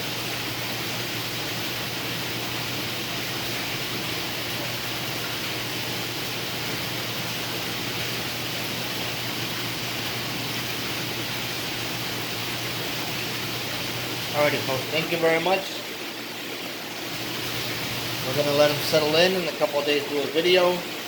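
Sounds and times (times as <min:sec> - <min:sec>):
water circulating hiss: 0:00.0 - 0:21.0.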